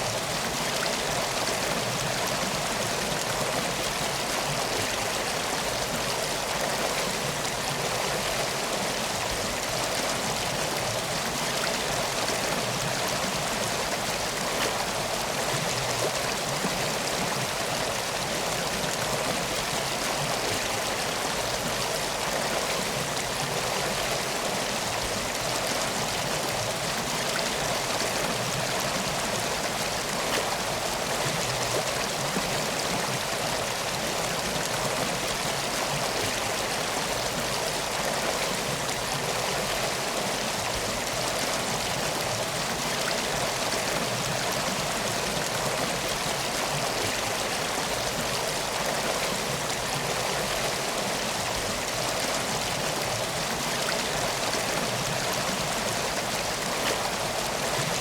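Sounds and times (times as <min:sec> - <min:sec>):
water flowing in stream: 0:00.0 - 0:58.0.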